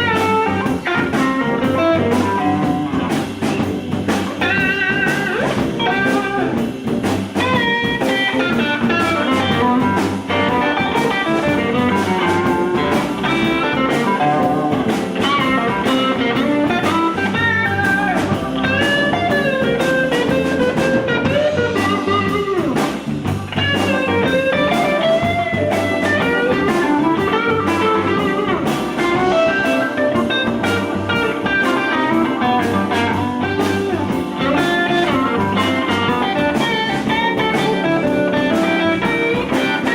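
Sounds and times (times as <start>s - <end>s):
blues band playing: 0.0s - 39.9s
lead line with bent notes: 0.0s - 39.9s.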